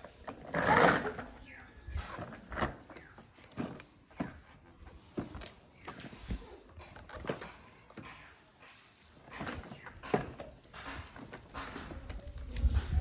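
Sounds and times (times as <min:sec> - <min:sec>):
plastic toy tricycle clattering on concrete: 0:00.0 - 0:13.0.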